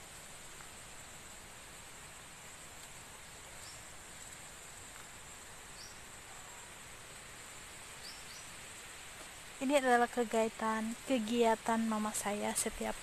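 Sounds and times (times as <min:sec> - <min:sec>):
soft hiss: 0:00.0 - 0:13.0.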